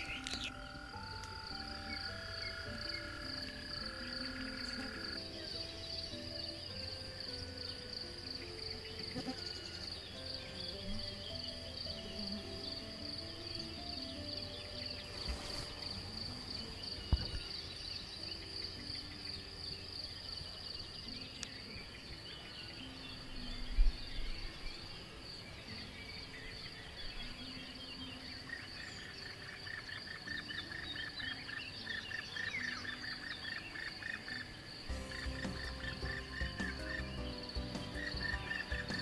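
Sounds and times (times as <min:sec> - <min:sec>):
bird chirps: 0:00.0 - 0:16.0, 0:16.7 - 0:39.0
insect trill: 0:00.0 - 0:39.0.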